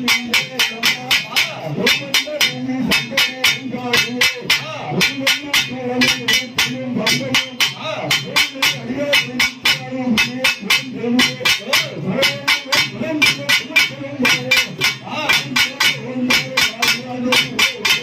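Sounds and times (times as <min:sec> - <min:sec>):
percussion band playing fast beat: 0:00.0 - 0:18.0.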